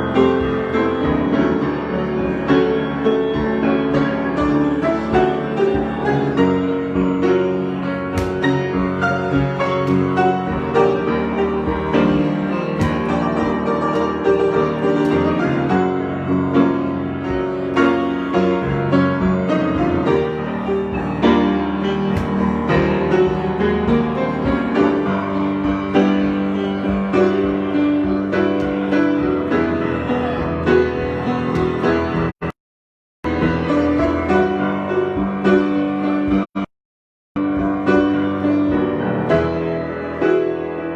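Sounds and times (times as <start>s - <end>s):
solo piano playing: 0.0s - 32.3s, 33.3s - 36.5s, 37.4s - 40.9s.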